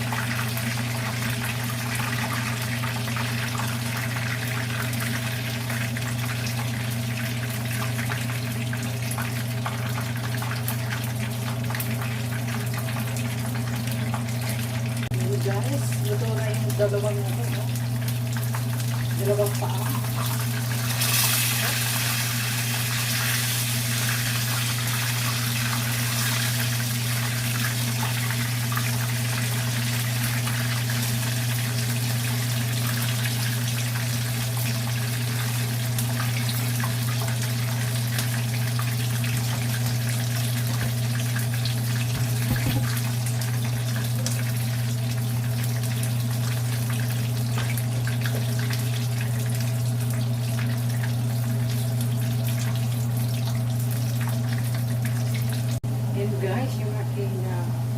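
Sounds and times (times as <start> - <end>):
oil sizzling and crackling: 0.0 - 55.9.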